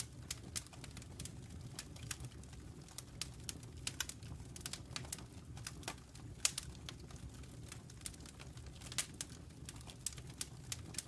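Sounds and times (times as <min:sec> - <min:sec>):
logs crackling and popping: 0:00.0 - 0:11.0
low rumble of flames: 0:00.0 - 0:11.0.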